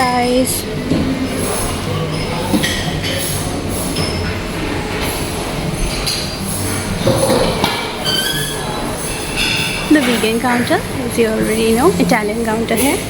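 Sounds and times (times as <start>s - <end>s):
restaurant din: 0.0s - 13.0s
dishes and cutlery clinking: 0.1s - 13.0s.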